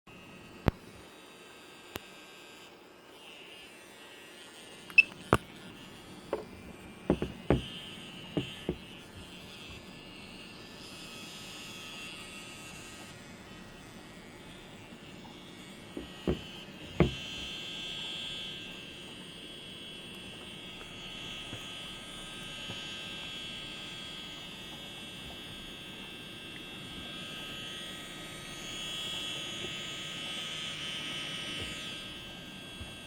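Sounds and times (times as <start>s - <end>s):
cooling fan whirring and whining: 0.1s - 33.0s.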